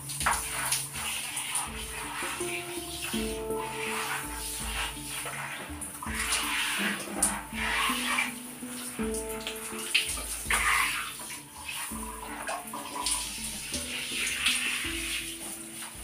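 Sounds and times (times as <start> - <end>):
background music: 0.0 - 16.0
shower spraying on hair and skin: 0.0 - 16.0.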